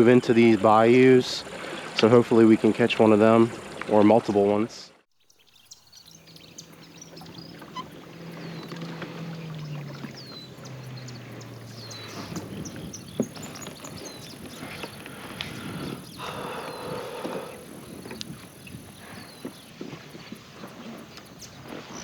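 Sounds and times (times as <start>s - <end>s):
paddle water swishing and splashing: 0.0s - 5.0s, 5.8s - 22.0s.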